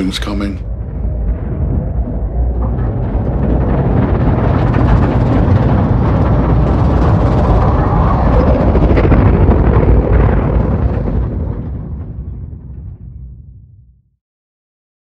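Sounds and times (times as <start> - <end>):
loud deep rumble: 0.0 - 14.1.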